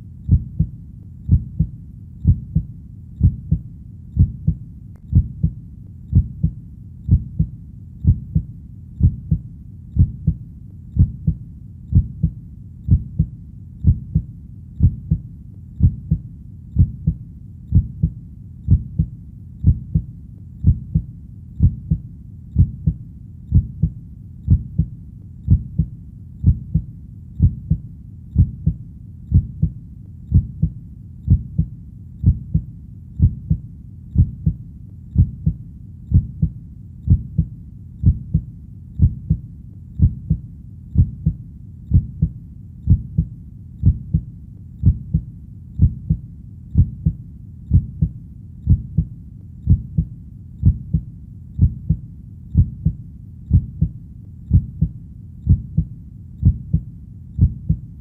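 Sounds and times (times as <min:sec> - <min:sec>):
heartbeat thumps: 0:00.0 - 0:10.4, 0:11.0 - 0:58.0.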